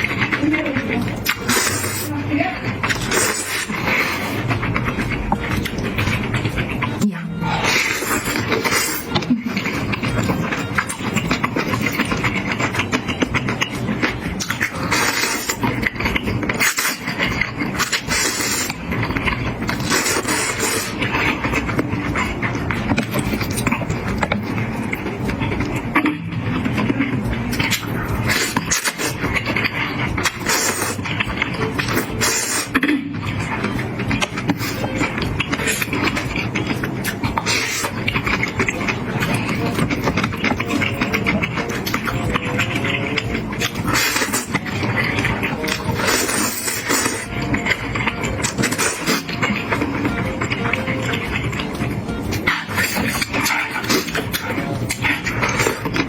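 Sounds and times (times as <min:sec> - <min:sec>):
wet chewing: 0:00.0 - 0:56.0
noodle slurping: 0:01.0 - 0:24.7, 0:27.5 - 0:51.6, 0:52.3 - 0:56.0.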